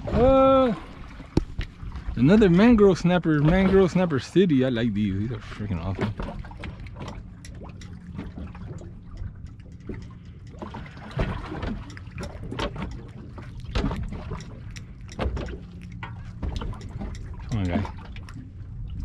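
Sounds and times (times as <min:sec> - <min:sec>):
steady low hum: 0:00.0 - 0:19.0
water lapping against boat hull: 0:00.0 - 0:19.0.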